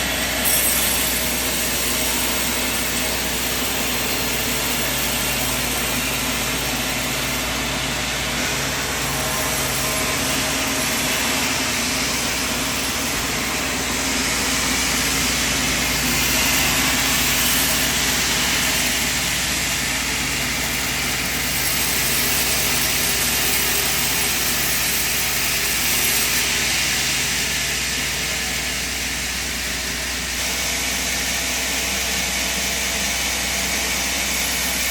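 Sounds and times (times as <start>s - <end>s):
sawmill machine running: 0.0s - 34.9s.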